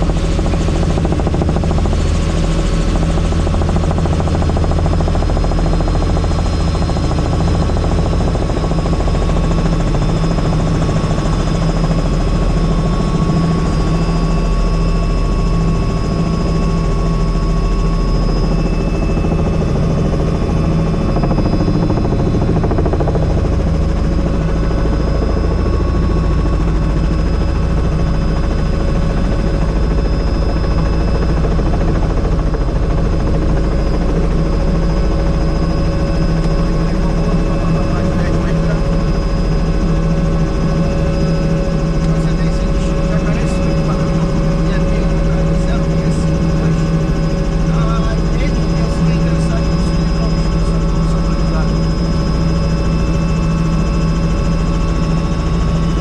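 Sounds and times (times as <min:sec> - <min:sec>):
helicopter rotor beat: 0:00.0 - 0:56.0
high turbine whine: 0:00.0 - 0:56.0.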